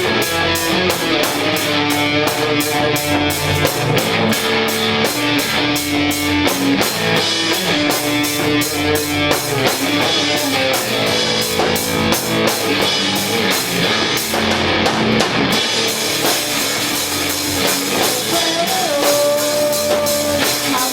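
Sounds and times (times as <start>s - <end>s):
drum kit: 0.0s - 20.9s
electric guitar: 0.0s - 20.9s.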